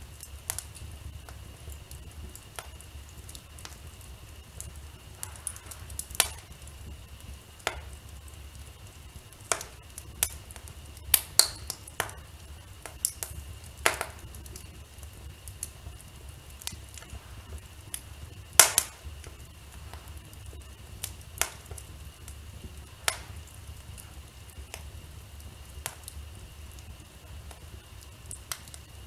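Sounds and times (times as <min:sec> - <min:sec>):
steady low hum: 0:00.0 - 0:29.0
wood fire crackling: 0:00.0 - 0:29.0.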